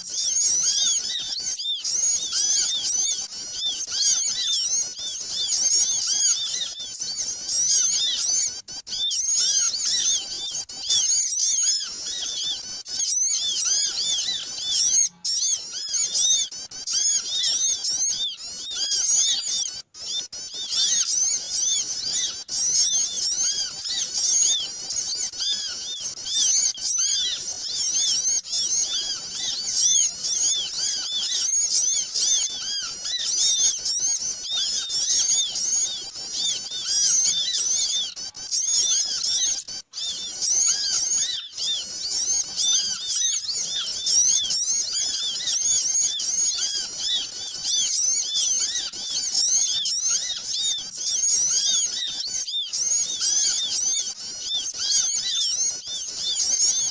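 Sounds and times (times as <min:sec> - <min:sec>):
small birds chirping chorus: 0:00.0 - 0:56.9.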